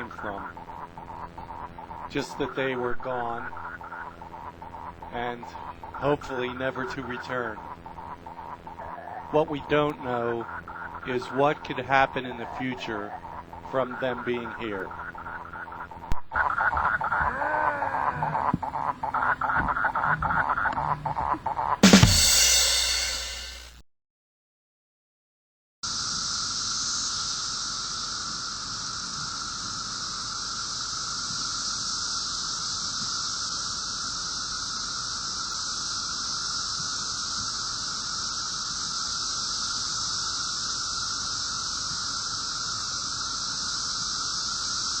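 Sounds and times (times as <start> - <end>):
cicadas droning: 0.0 - 23.7, 25.8 - 45.0.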